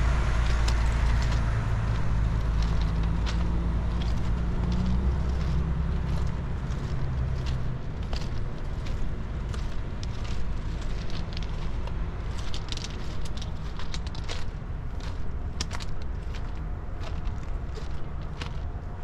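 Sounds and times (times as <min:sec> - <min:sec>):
low rumble: 0:00.0 - 0:19.0
crackles and clicks: 0:00.4 - 0:18.9.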